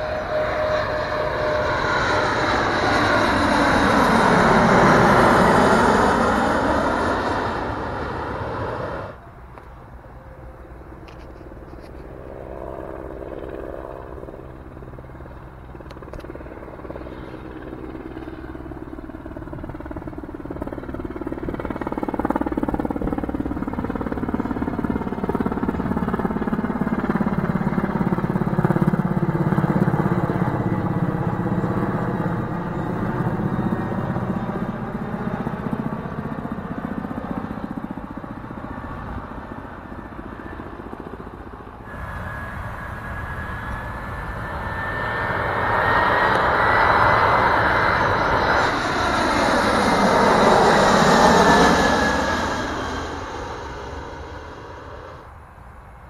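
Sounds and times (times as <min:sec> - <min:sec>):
helicopter flying past: 0:00.0 - 0:56.0
jet airliner engines: 0:00.0 - 0:56.0.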